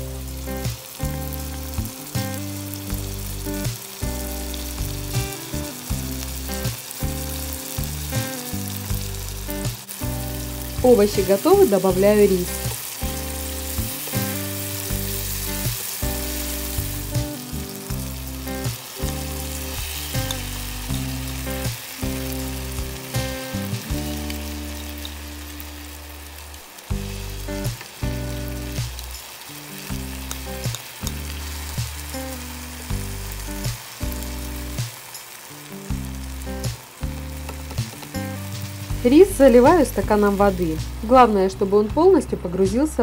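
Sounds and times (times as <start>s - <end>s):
background music: 0.0s - 35.0s, 35.6s - 43.0s
vegetables sizzling in oil: 0.0s - 43.0s.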